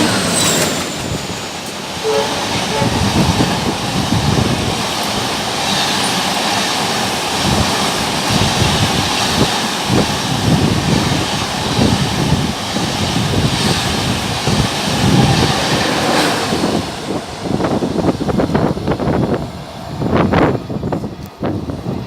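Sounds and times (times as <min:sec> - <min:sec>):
passenger train rushing past: 0:00.0 - 0:22.0
wheels rumbling on rail: 0:00.0 - 0:22.0.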